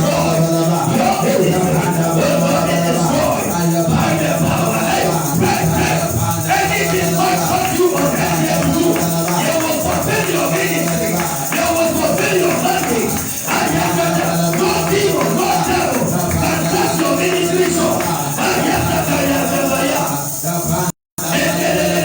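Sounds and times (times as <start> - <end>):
hand percussion shaking: 0.0 - 22.0
many voices praying aloud: 0.0 - 22.0.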